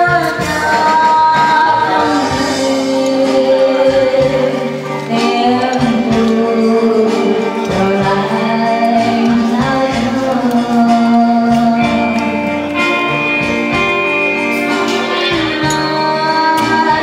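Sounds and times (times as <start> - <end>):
loud music with bass line: 0.0 - 8.4, 9.0 - 17.0.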